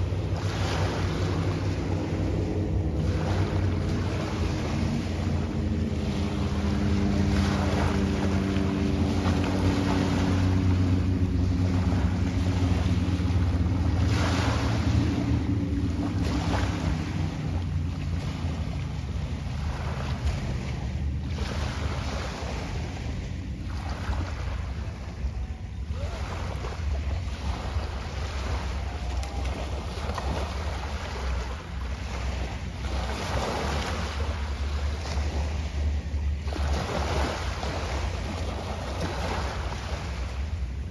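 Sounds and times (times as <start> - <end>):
boat motor droning: 0.0 - 40.9
waves washing in: 0.0 - 40.9.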